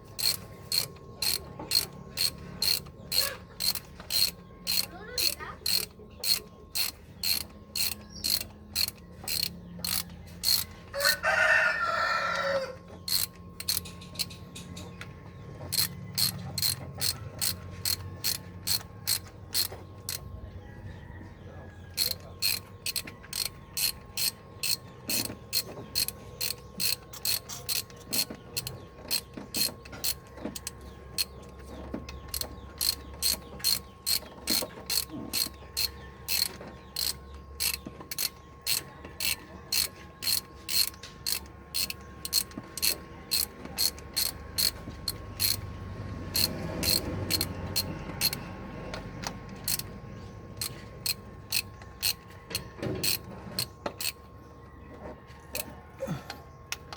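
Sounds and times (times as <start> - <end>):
ratchet wrench clicking: 0.0 - 11.2, 13.0 - 14.8, 15.7 - 20.3, 21.9 - 45.7, 46.3 - 48.5, 49.1 - 49.9, 50.6 - 54.2.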